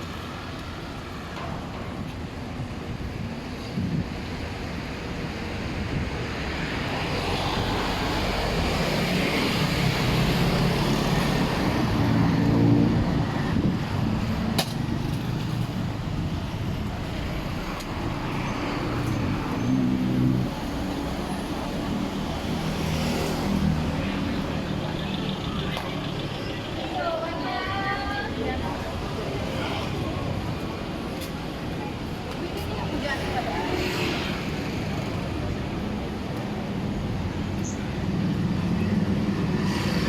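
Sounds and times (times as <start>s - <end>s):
road noise hum: 0.0s - 40.0s
vehicles passing: 0.0s - 40.0s.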